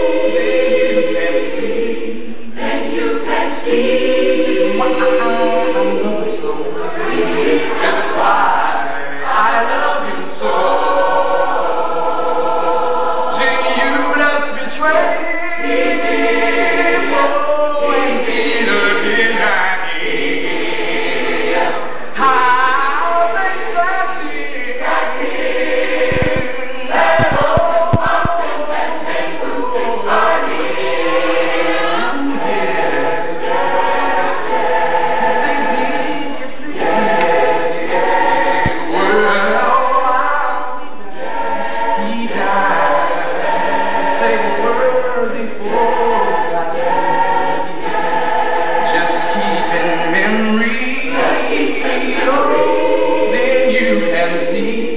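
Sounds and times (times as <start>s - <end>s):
choir singing a cappella: 0.0s - 54.9s.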